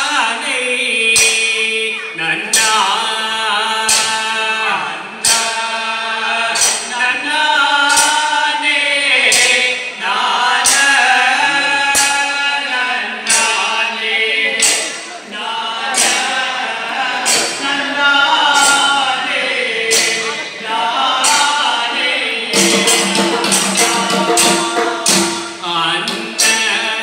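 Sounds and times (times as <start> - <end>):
men's chorus singing: 0.0 - 27.0
sharp percussion strokes: 3.8 - 27.0.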